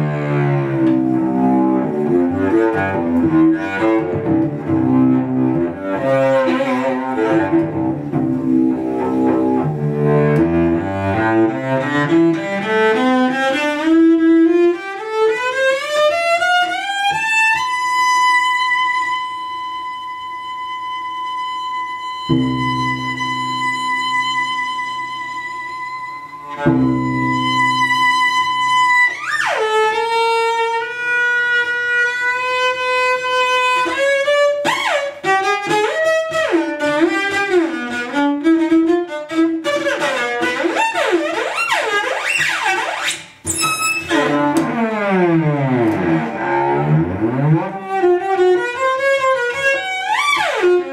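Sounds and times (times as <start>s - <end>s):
bowed cello: 0.0s - 50.9s.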